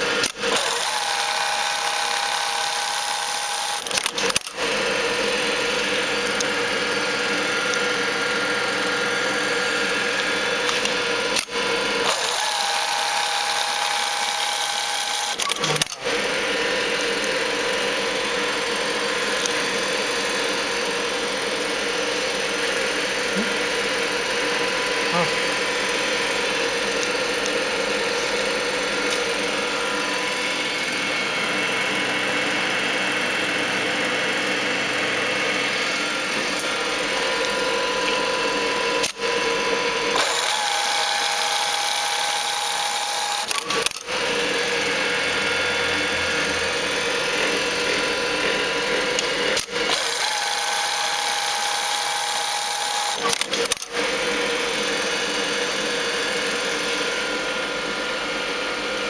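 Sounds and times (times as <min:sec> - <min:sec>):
sewing machine whirring: 0:00.0 - 0:59.0.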